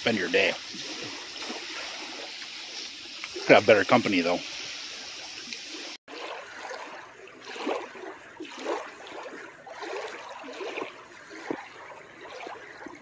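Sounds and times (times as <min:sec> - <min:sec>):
small waves lapping: 0:00.0 - 0:13.0.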